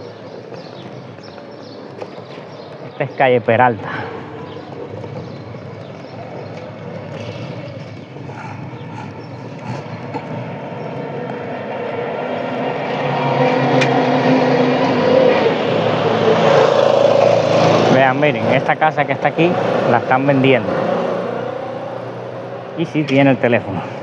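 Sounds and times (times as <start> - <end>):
small vehicle engine running: 0.0 - 22.8.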